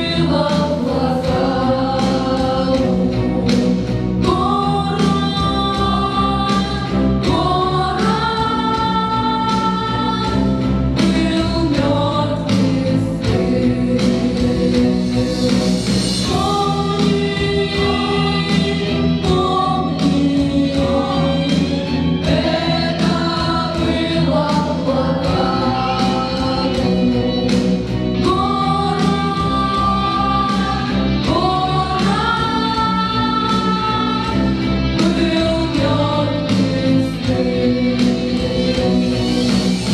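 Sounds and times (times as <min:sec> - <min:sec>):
choir singing: 0:00.0 - 0:39.9
instrumental accompaniment with beat: 0:00.0 - 0:39.9.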